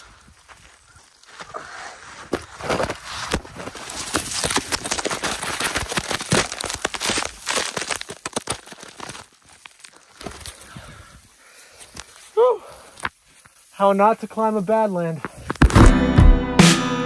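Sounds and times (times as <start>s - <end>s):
dry soil crunching and rushing: 0.0s - 15.9s.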